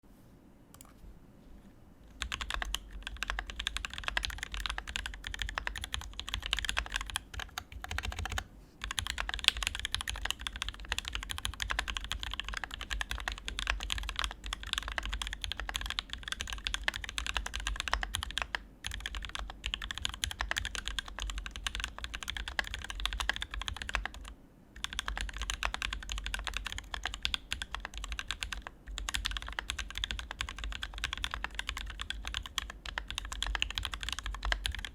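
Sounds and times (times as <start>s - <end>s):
fast typing on mechanical keyboard: 2.2s - 34.9s.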